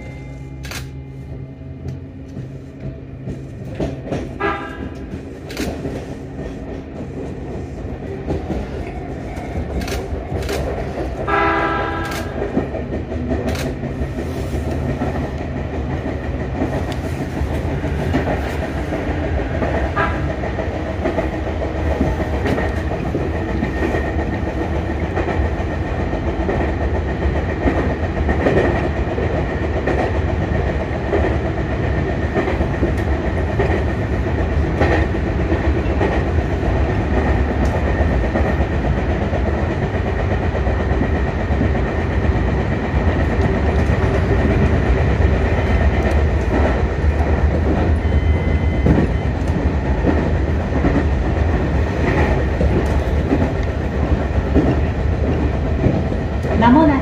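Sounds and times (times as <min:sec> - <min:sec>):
electric train wheel clatter: 0:00.0 - 0:57.0.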